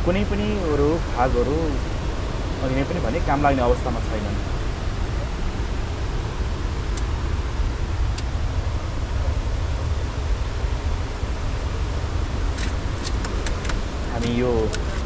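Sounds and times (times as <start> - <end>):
fast river rushing: 0.0 - 15.0
low uneven rumble: 0.0 - 15.0.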